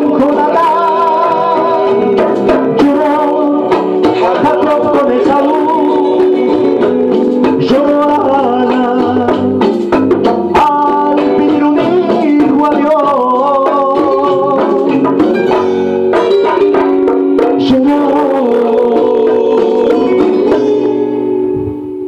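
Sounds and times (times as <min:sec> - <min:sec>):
man singing into a microphone: 0:00.0 - 0:09.8, 0:10.4 - 0:15.4, 0:17.4 - 0:21.0
hand drum strikes: 0:00.1 - 0:21.8.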